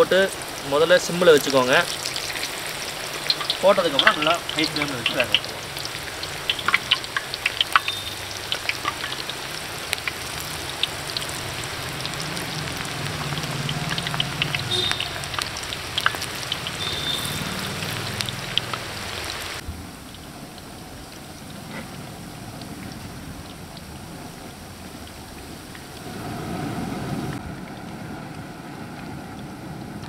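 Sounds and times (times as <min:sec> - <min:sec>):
fritters deep-frying in oil: 0:00.0 - 0:26.4.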